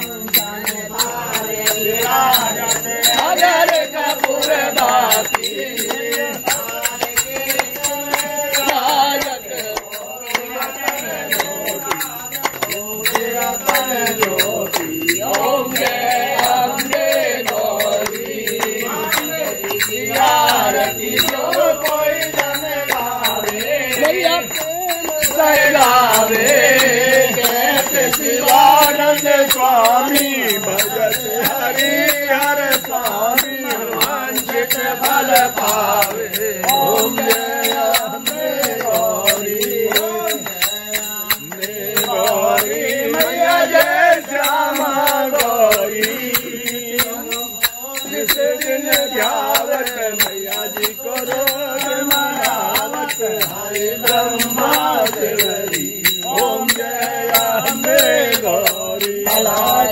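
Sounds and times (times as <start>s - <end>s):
devotional chant with instruments: 0.0s - 59.9s
jingling percussion: 0.0s - 59.9s.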